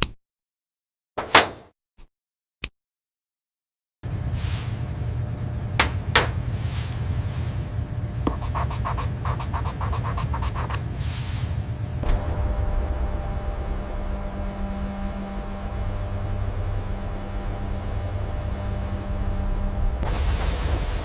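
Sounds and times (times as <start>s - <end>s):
low machine rumble: 4.0s - 21.0s.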